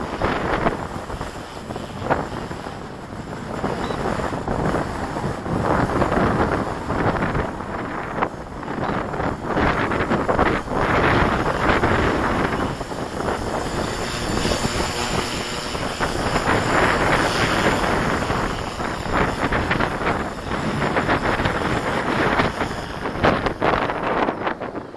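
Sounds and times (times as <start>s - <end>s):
radio-controlled helicopter running: 0.0s - 24.9s
wind buffeting microphone: 0.0s - 24.9s.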